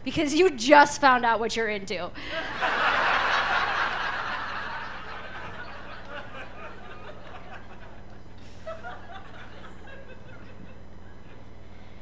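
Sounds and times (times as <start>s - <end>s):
low steady hum: 0.0s - 12.0s
audience chuckles and murmurs: 2.3s - 11.9s.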